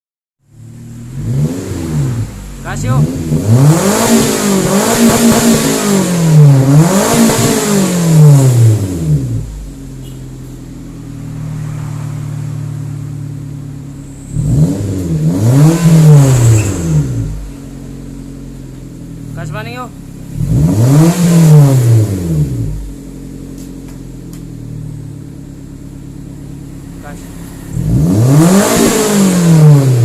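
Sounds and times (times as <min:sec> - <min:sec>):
car engine revving and idling: 0:00.4 - 0:30.0.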